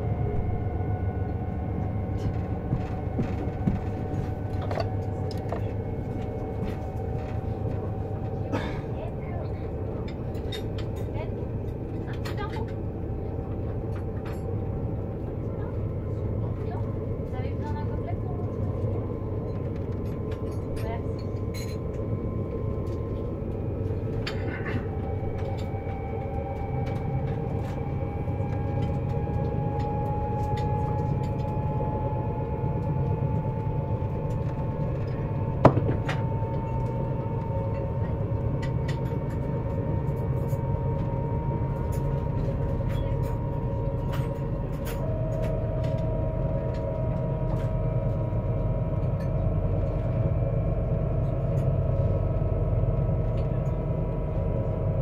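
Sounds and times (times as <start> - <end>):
low rumble of running train: 0.0 - 55.0
train inverter whining: 0.0 - 55.0.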